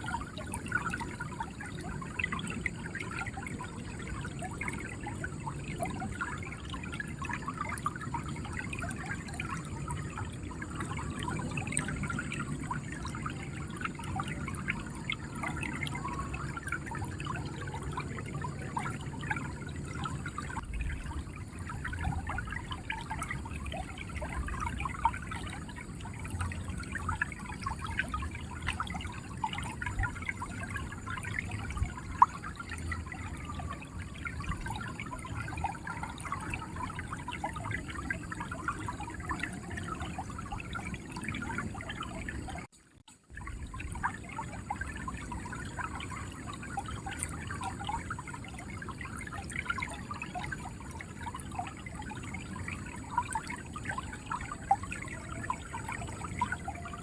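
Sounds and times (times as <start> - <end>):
river water gurgling: 0.0 - 57.0.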